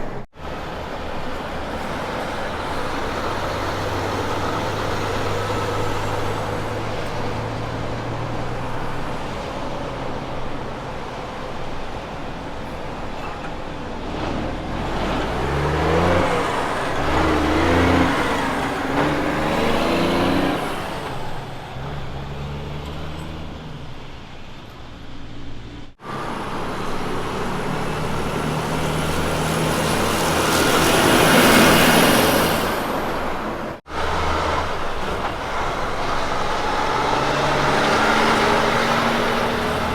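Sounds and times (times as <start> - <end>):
truck driving past: 0.0 - 39.9
truck pulling away shifting gears: 0.0 - 39.9.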